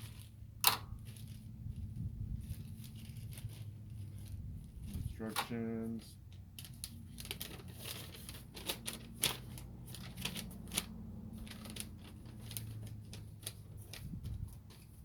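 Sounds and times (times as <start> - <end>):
package crinkling and rustling: 0.0 - 15.0.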